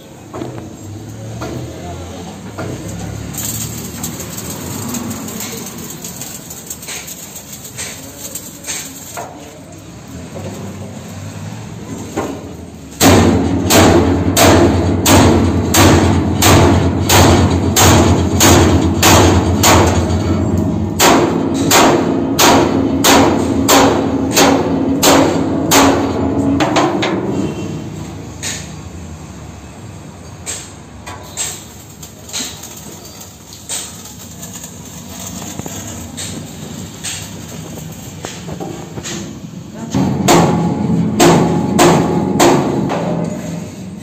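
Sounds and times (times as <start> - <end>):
hammer striking steel: 2.5 - 9.6, 12.1 - 28.9, 30.4 - 44.0.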